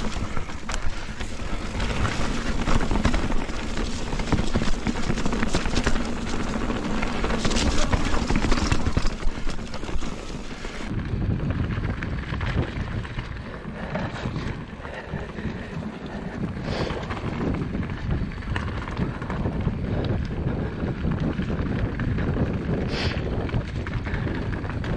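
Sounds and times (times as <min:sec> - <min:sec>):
bike knocking and rattling: 0:00.0 - 0:24.9
bike tyre noise: 0:00.0 - 0:24.9
wind buffeting microphone: 0:00.0 - 0:24.9.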